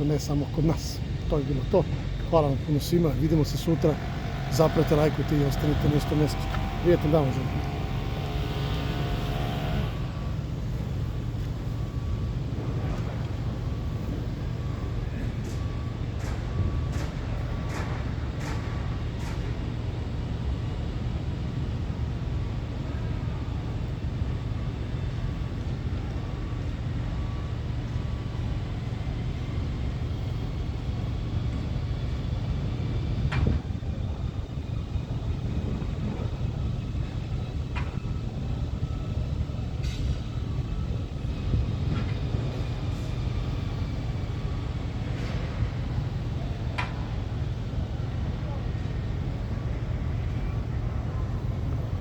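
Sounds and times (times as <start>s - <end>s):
construction area rumble: 0.0s - 52.0s.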